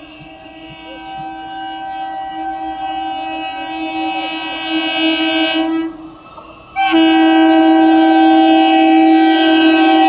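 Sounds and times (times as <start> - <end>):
train horn blast: 0.0 - 10.0.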